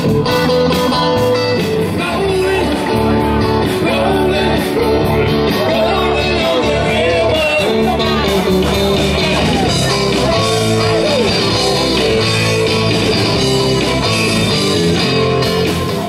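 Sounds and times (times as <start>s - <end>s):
bass: 0.0s - 16.0s
drums: 0.0s - 16.0s
electric guitar: 0.0s - 16.0s.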